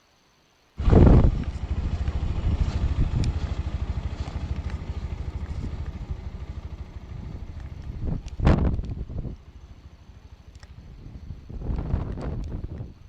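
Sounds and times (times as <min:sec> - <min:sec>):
motorcycle engine at low revs: 0:00.8 - 0:12.9.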